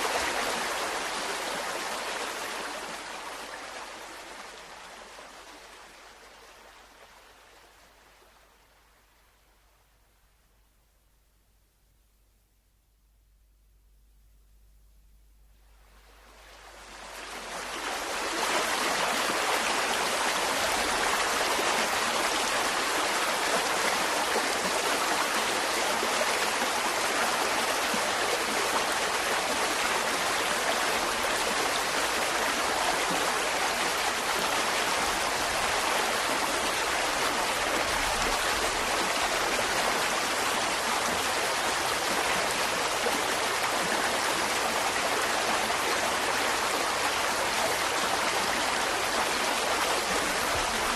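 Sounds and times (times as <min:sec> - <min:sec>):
stream flowing water: 0:00.0 - 0:10.0, 0:15.8 - 0:50.9.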